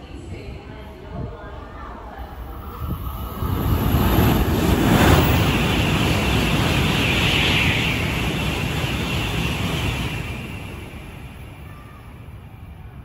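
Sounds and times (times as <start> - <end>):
train rushing past: 2.1 - 13.0.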